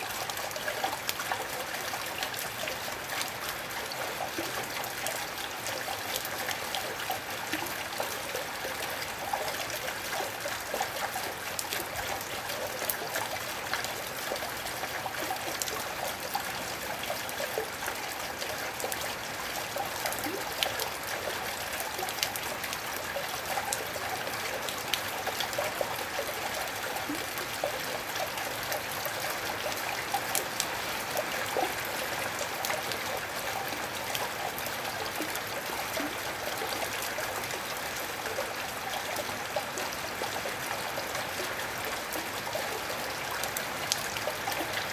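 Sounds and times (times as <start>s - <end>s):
gentle steady rain: 0.0s - 44.9s.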